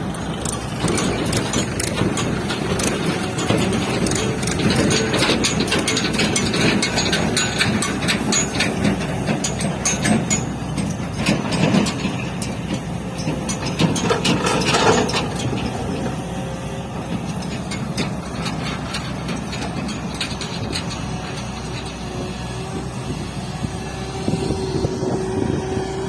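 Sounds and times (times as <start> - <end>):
metallic clanks and knocks: 0.0 - 23.4
excavator diesel engine running: 0.0 - 26.0.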